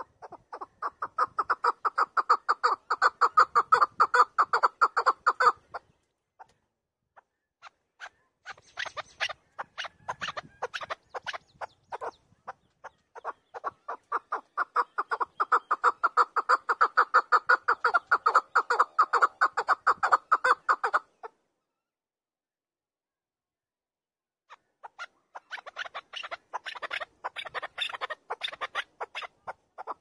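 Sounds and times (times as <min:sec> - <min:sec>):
partridge calling: 0:00.0 - 0:06.6, 0:07.2 - 0:21.4, 0:24.5 - 0:30.0.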